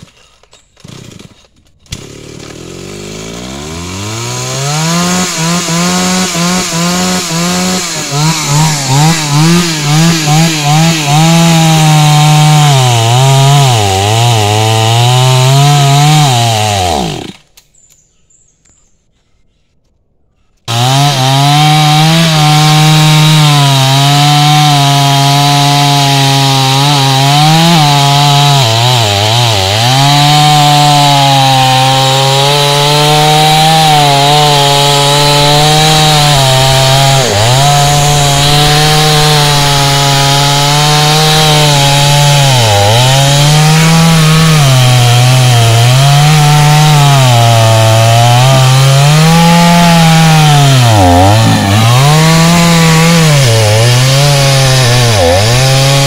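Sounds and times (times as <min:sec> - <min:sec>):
chainsaw cutting tree trunk: 0:00.8 - 0:17.6, 0:20.7 - 0:56.0.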